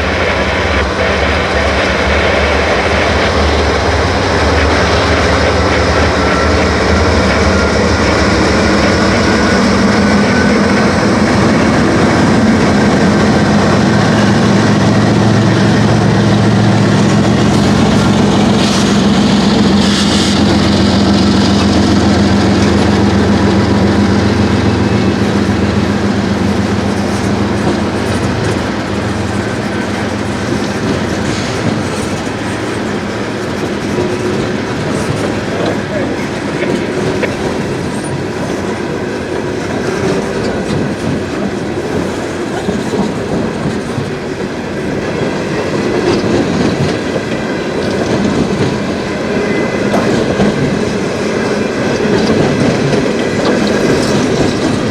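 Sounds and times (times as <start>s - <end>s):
diesel locomotive engine drone: 0.0s - 54.9s
freight cars clickety-clack: 0.0s - 54.9s.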